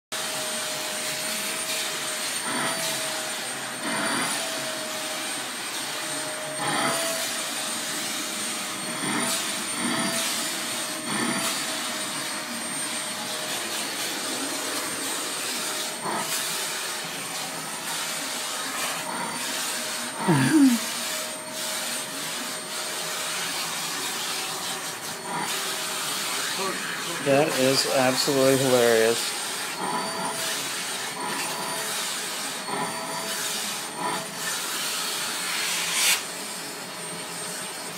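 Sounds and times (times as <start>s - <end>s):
vacuum cleaner running: 0.1s - 37.9s.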